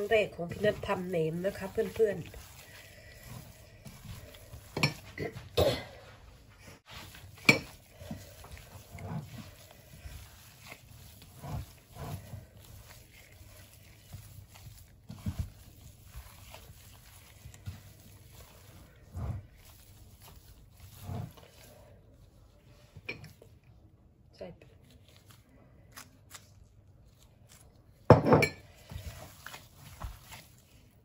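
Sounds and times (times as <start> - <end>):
wet squelches of kneading meat: 0.0 - 31.0.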